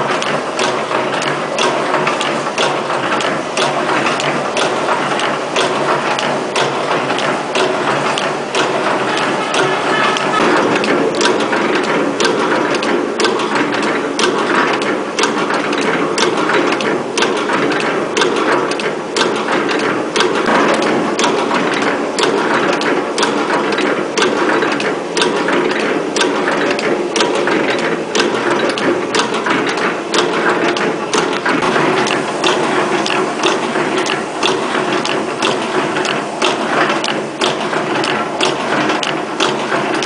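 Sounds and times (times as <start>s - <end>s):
machine clattering with sharp clicks: 0.0s - 40.0s.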